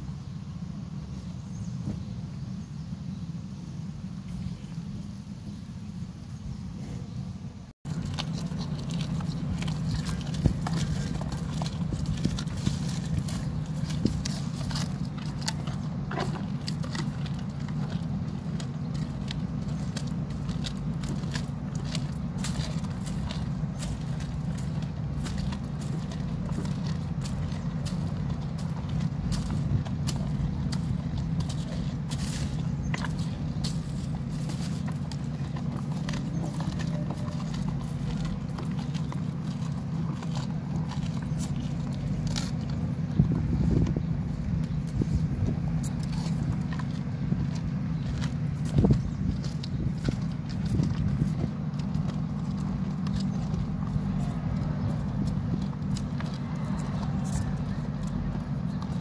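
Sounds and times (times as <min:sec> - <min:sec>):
low rumble: 0:00.0 - 0:59.0
bull chewing stalks: 0:06.7 - 0:59.0.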